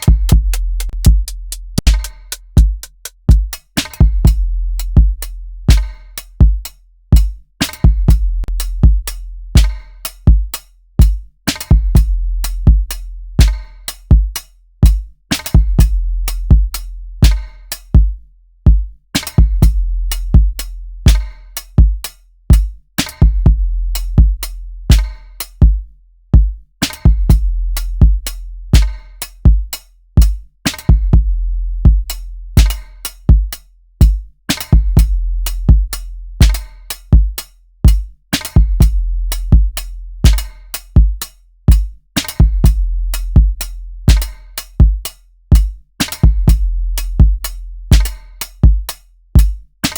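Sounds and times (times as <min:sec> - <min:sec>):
snare and hi-hat hits: 0:00.0 - 0:05.0, 0:05.7 - 0:18.0, 0:19.2 - 0:25.7, 0:26.8 - 0:31.2, 0:32.1 - 0:49.9
deep kick drum: 0:00.0 - 0:49.7.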